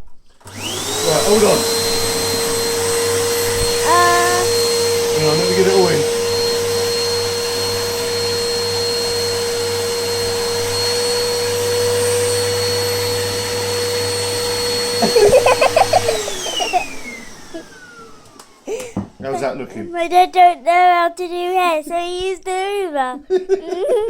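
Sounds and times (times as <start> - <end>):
vacuum cleaner running: 0.3 - 20.0.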